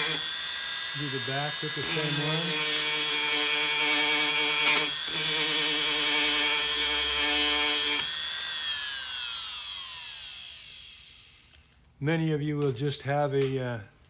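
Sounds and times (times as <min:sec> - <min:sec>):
rotary tool whine: 0:00.0 - 0:11.8.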